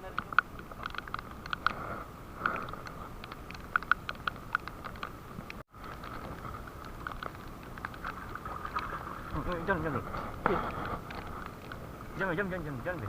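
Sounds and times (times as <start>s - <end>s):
raindrops pattering: 0.0s - 13.0s.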